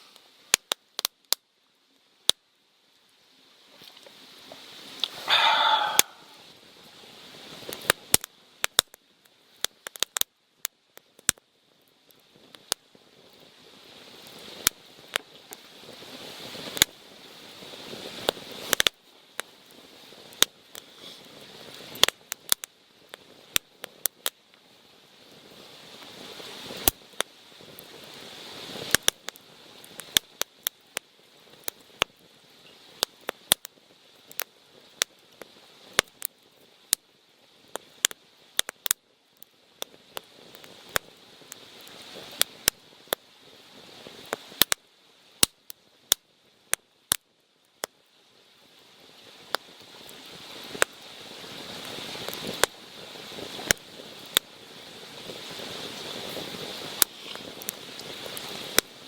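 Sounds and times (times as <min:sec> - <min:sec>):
campfire popping and snapping: 0:00.1 - 0:01.5, 0:02.2 - 0:02.4, 0:03.8 - 0:48.0, 0:48.6 - 0:59.0
hiss of flame: 0:03.5 - 0:10.2, 0:12.1 - 0:47.2, 0:47.8 - 0:59.0.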